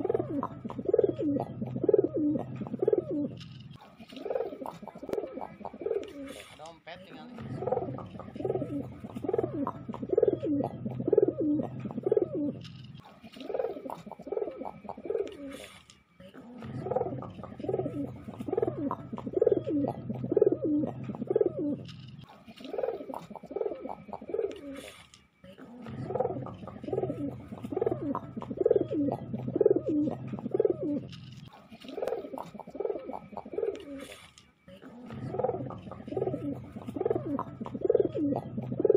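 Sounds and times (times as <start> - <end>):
pigeon cooing: 0.0 - 38.9.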